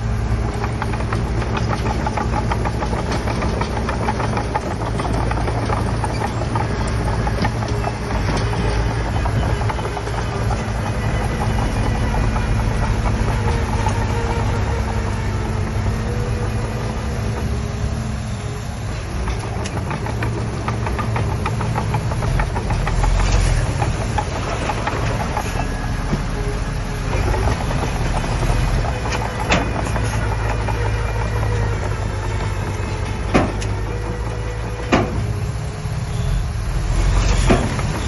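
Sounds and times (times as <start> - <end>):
diesel engine running: 0.0 - 38.0
metallic clanking of tracks: 0.0 - 38.0.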